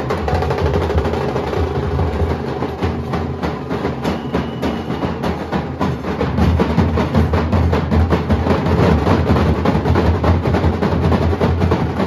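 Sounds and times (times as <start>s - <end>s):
barrel drums beaten fast: 0.0s - 12.0s.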